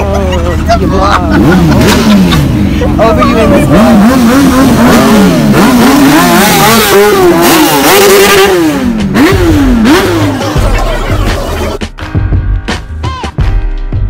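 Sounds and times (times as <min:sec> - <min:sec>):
engine revving: 0:00.5 - 0:11.8.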